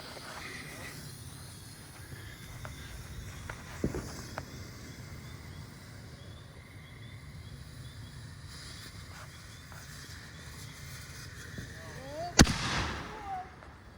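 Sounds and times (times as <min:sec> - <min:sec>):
insect chirping: 0:00.0 - 0:13.9.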